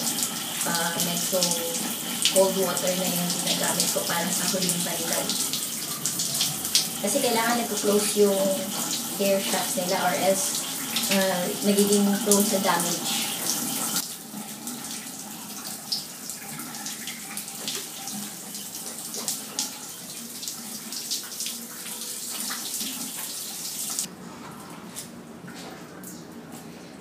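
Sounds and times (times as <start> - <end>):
shower sprayer water splashing: 0.0 - 24.1.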